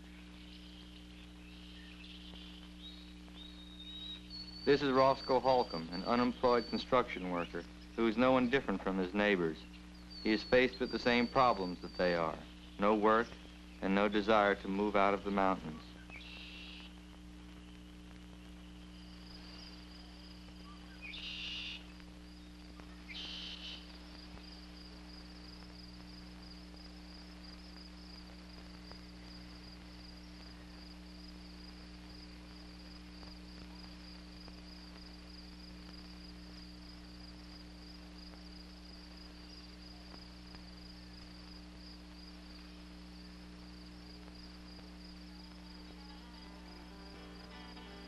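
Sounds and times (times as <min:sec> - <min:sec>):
insects chirring: 0:00.0 - 0:48.0
low hum: 0:00.0 - 0:48.0
short loud insect calls: 0:00.0 - 0:48.0.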